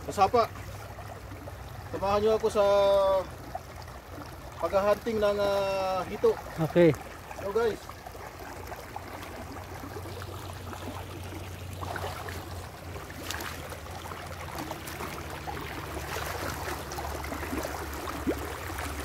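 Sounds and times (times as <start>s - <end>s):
splashes of wading: 0.0s - 19.0s
stream trickling over rocks: 0.0s - 19.0s.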